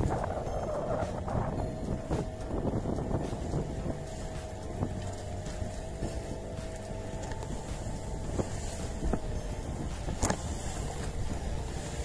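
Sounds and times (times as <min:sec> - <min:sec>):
boat motor running: 0:00.0 - 0:12.0
water rushing along hull: 0:00.0 - 0:12.0
wind buffeting microphone: 0:00.0 - 0:12.0.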